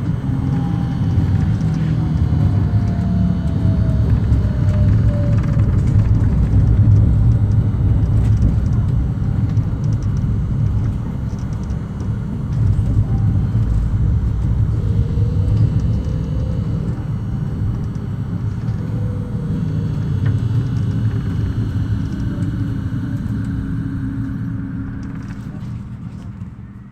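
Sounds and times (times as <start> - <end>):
gliding whining tones: 0.0 - 8.4, 12.4 - 26.3
tram wheels rumbling: 0.0 - 26.9.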